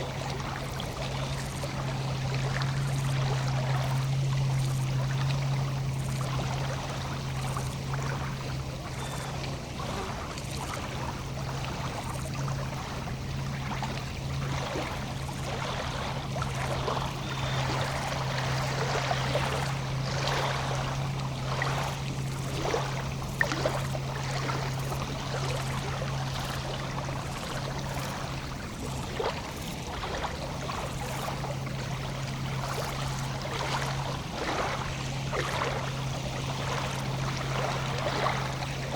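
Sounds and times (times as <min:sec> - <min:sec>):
lake waves lapping: 0:00.0 - 0:38.9
steady low hum: 0:00.0 - 0:38.9.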